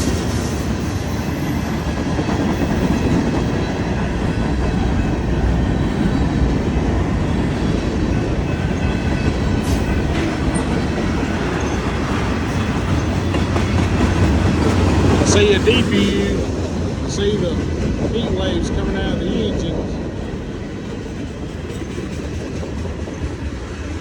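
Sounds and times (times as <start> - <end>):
freight train wheels on track: 0.0 - 24.0.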